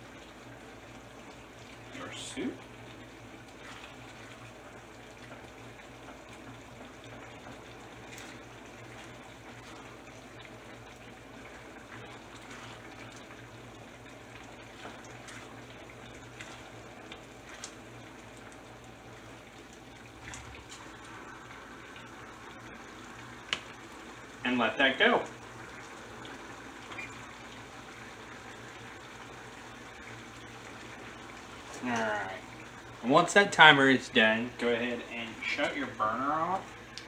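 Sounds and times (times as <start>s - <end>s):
stew simmering in a skillet: 0.0s - 37.0s.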